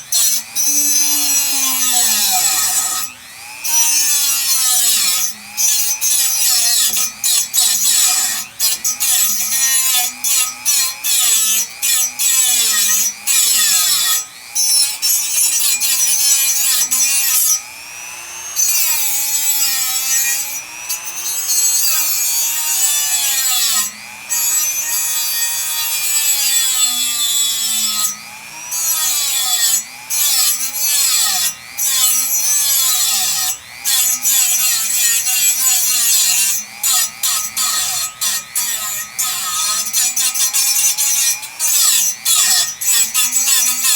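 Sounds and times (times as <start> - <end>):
rotary tool grinding metal: 0.0 - 43.9.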